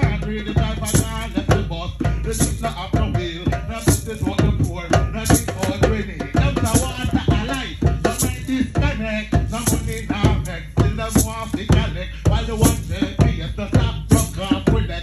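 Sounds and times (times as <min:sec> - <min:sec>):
hand drums heartbeat rhythm: 0:00.0 - 0:15.0
man chanting into microphone: 0:00.0 - 0:15.0.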